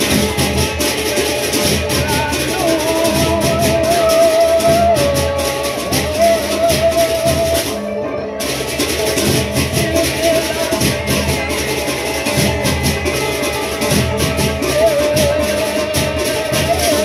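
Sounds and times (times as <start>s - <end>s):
bamboo flute with vibrato: 0.0s - 17.0s
rhythmic percussion: 0.0s - 17.0s.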